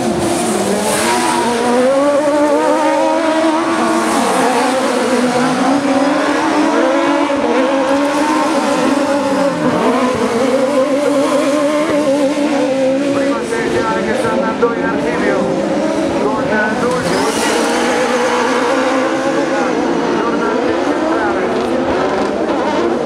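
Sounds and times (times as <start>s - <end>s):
buggy engines revving: 0.0s - 23.0s.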